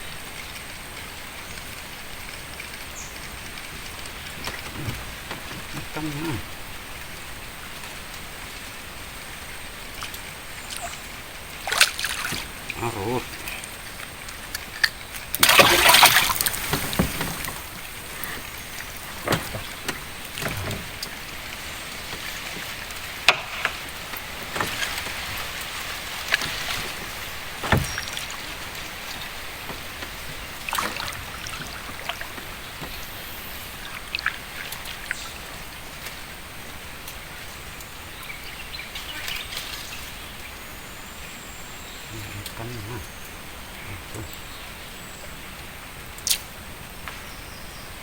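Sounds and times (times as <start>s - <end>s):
water sloshing around boat: 1.6s - 45.2s.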